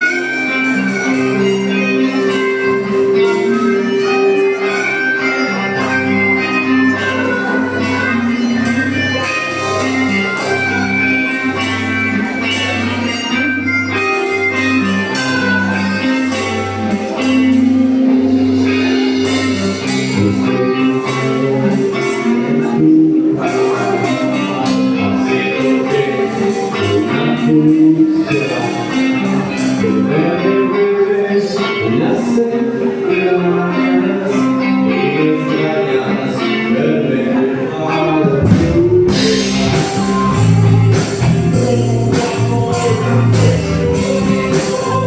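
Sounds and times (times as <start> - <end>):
live band music: 0.0 - 45.0.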